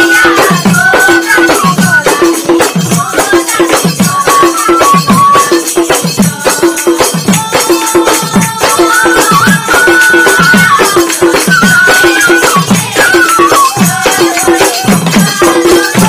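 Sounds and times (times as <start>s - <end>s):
barrel drum beating: 0.0s - 16.0s
jingling cymbals: 0.0s - 16.0s.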